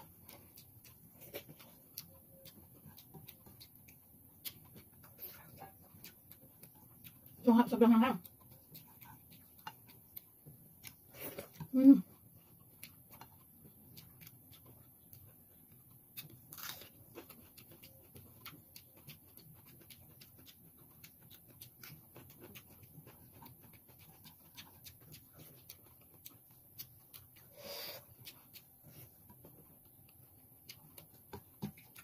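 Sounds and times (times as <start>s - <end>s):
person chewing: 0.0s - 32.0s.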